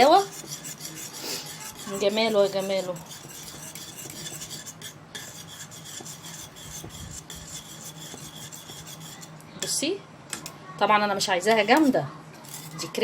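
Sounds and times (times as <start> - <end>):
utensil scraping a pot: 0.0 - 9.4, 11.4 - 13.0.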